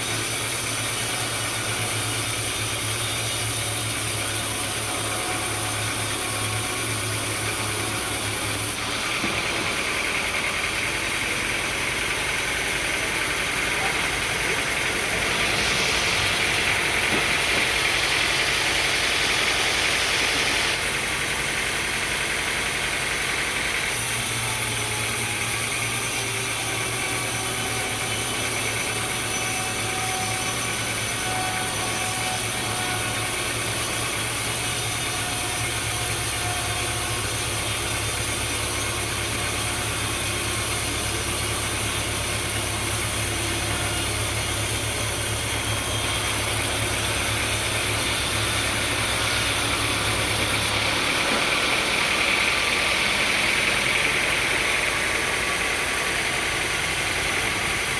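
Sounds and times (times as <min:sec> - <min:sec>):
engine hum: 0:00.0 - 0:57.9
sawmill machinery running: 0:00.0 - 0:57.9.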